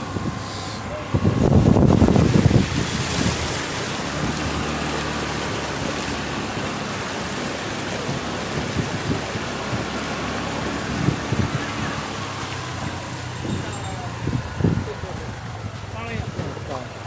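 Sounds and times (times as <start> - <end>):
faint engine hum: 0.0 - 17.0
scooter passing spraying water: 0.0 - 17.0
tyres rushing through flood water: 0.0 - 17.0.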